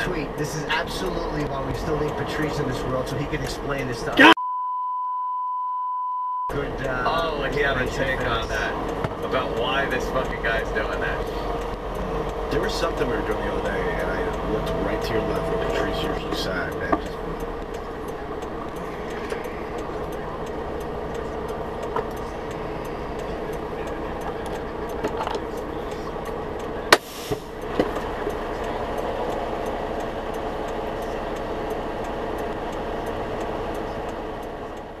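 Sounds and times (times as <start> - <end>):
diesel engine idling: 0.0 - 4.4, 6.5 - 35.0
turn signal ticking: 0.0 - 4.4, 6.5 - 35.0.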